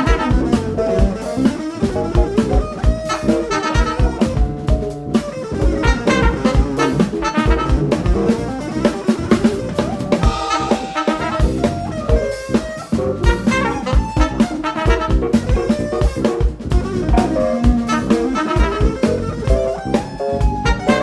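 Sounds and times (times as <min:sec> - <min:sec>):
drum kit beats: 0:00.0 - 0:21.0
horns holding notes: 0:00.0 - 0:21.0
live jazz band: 0:00.0 - 0:21.0.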